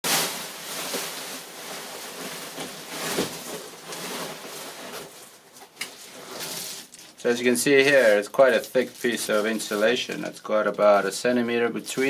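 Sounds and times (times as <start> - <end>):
foil insulation rustling: 0.0 - 12.0.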